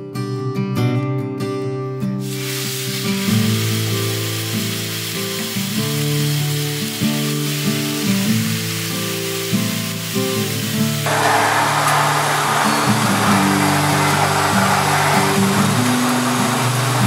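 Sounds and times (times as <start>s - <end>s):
steaks sizzling in frying pan: 2.2s - 17.0s
plucked guitar music: 2.8s - 17.0s.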